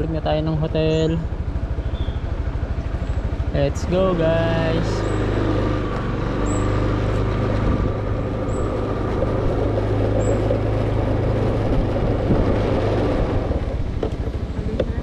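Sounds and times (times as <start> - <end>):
motor scooter engine running: 0.0 - 15.0.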